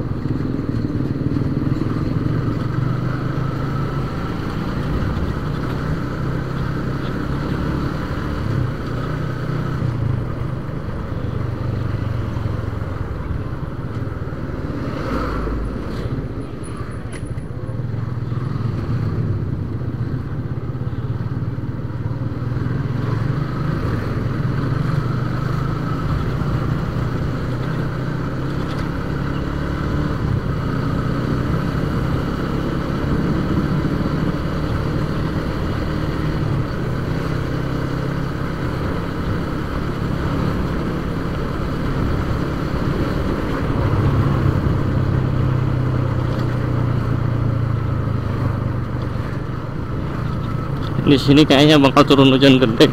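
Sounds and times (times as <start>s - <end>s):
wind and road noise: 0.0s - 52.9s.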